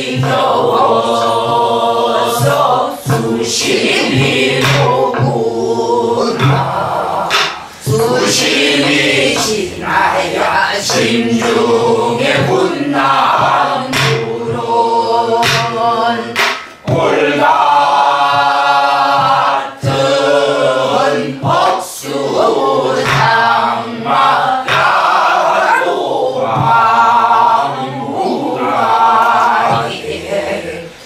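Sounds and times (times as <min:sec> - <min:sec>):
barrel drum beaten with stick: 0:00.0 - 0:30.1
group singing folk song: 0:00.0 - 0:31.0.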